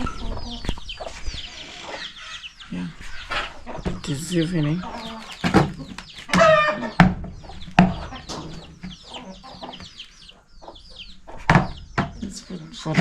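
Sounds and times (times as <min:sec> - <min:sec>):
chickens clucking: 0:00.0 - 0:13.0
chicks cheeping: 0:00.0 - 0:13.0.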